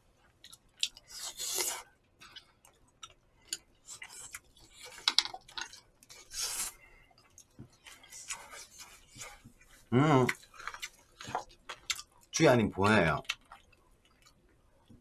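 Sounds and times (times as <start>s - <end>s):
chewing: 0.2s - 12.3s, 13.2s - 15.0s.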